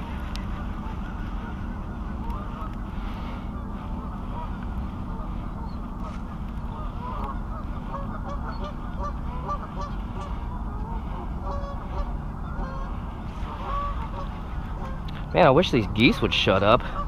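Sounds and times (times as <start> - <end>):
geese honking: 0.0 - 17.0
steady low rumble: 0.0 - 17.0.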